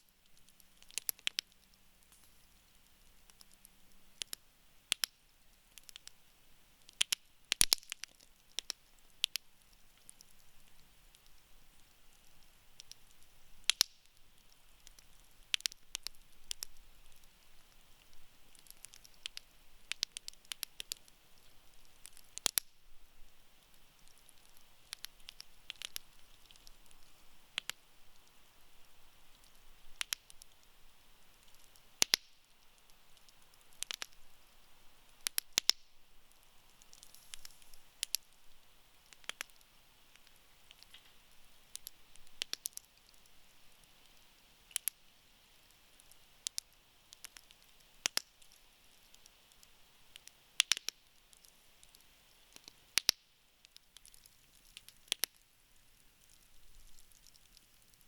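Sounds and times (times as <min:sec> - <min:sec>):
campfire crackling and popping: 0:00.0 - 0:58.0
faint fire hiss: 0:00.0 - 0:58.0.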